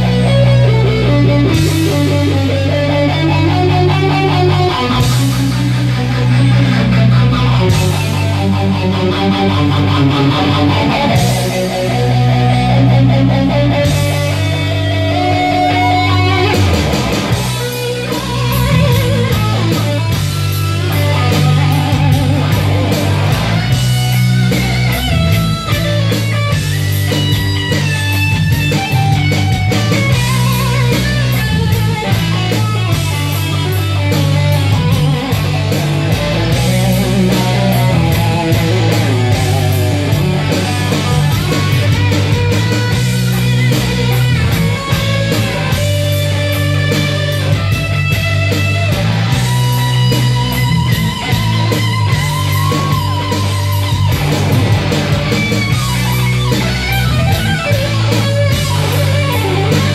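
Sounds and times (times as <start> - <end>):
drum beat: 0.0 - 59.9
electric guitar lead melody: 0.0 - 59.9
steady bass line: 0.0 - 59.9.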